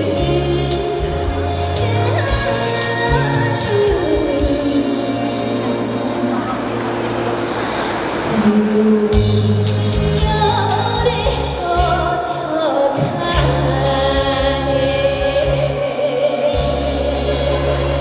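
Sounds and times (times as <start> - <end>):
woman singing: 0.0 - 6.6, 8.3 - 18.0
backing track with heavy bass: 0.0 - 18.0.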